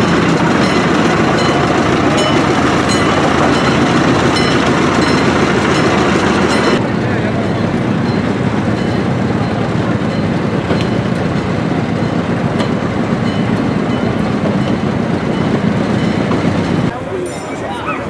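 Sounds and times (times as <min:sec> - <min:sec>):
diesel locomotive running: 0:00.0 - 0:18.0
wheels clicking on rails: 0:00.0 - 0:18.0.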